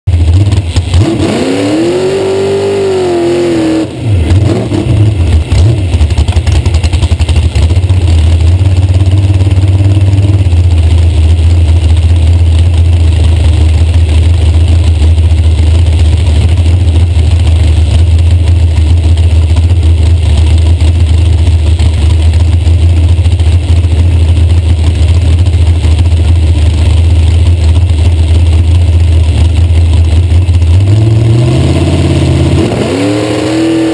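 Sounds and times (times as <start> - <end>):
dragster engine revving and idling: 0.1 - 33.9.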